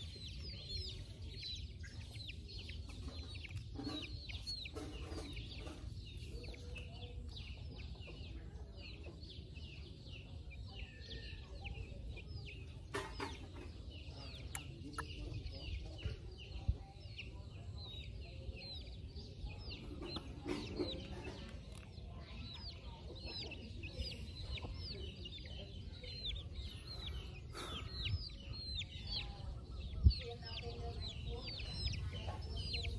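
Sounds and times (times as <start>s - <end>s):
chickens clucking: 0.0s - 32.9s
chicks peeping: 0.0s - 32.9s.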